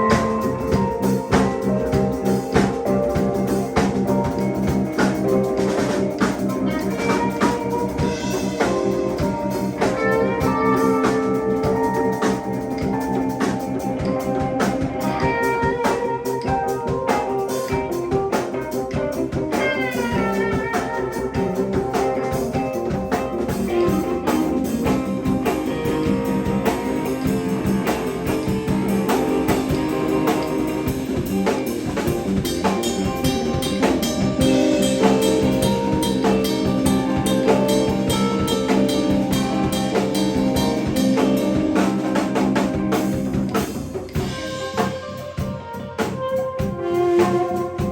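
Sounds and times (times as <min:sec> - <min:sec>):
drum kit steady beat: 0:00.0 - 0:47.9
electric guitar playing: 0:00.0 - 0:47.9.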